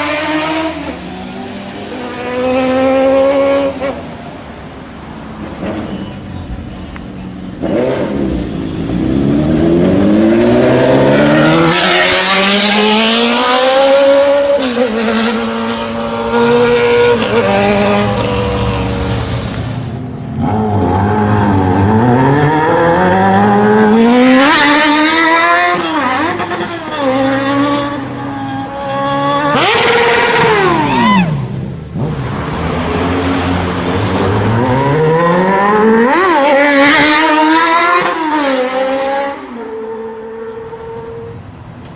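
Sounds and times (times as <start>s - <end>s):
motorcycles accelerating hard: 0.0s - 4.0s, 7.6s - 40.9s.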